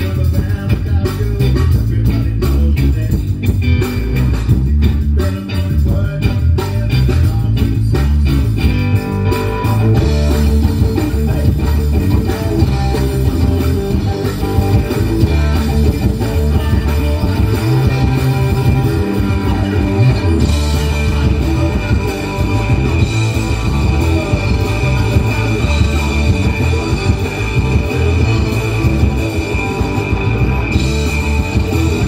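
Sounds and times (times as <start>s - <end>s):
bass guitar: 0.0s - 32.0s
drum and cymbal hits: 0.0s - 32.0s
live rock band playing: 0.0s - 32.0s.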